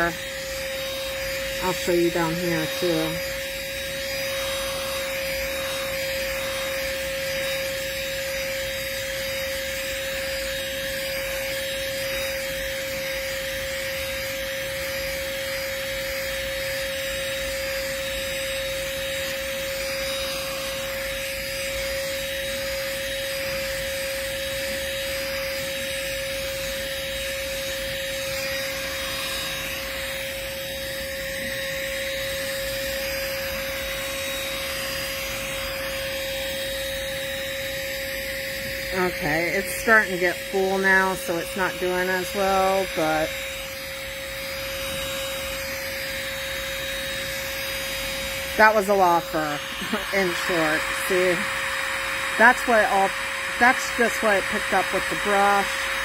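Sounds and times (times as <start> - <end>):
handheld vacuum whining: 0.0 - 56.0.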